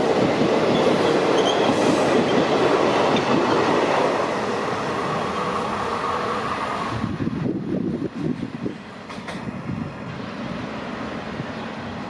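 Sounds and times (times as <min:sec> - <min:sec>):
low train rumble: 0:00.0 - 0:12.0
train wheels on rails: 0:00.0 - 0:12.0.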